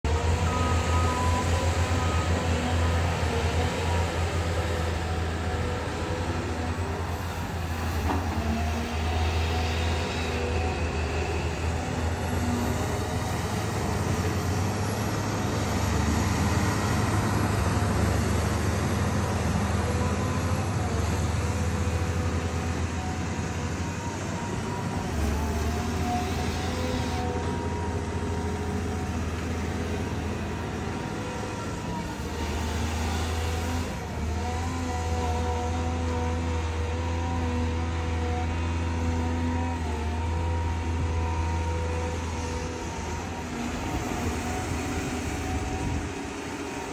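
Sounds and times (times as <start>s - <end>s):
excavator diesel engine drone: 0.0s - 46.9s.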